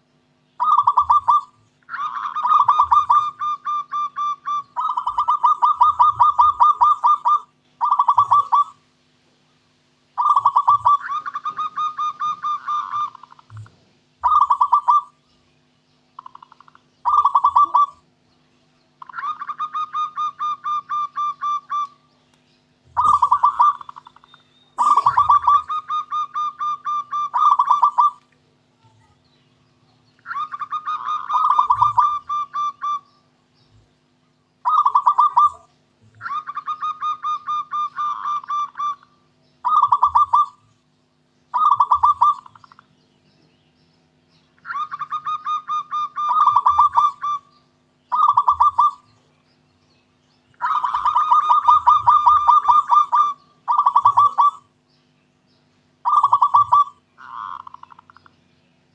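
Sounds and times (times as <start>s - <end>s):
dove cooing: 0.6s - 8.9s, 10.2s - 15.2s, 16.2s - 18.1s, 19.0s - 22.1s, 22.8s - 29.2s, 30.2s - 34.0s, 34.6s - 40.8s, 41.5s - 42.9s, 44.6s - 49.3s, 50.5s - 54.8s, 56.0s - 58.3s.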